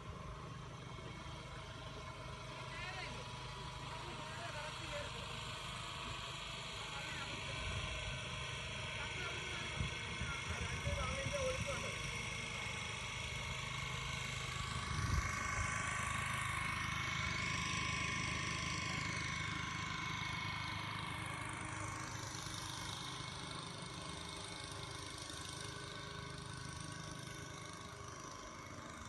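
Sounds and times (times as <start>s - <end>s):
engine running and moving away: 0.0s - 29.0s.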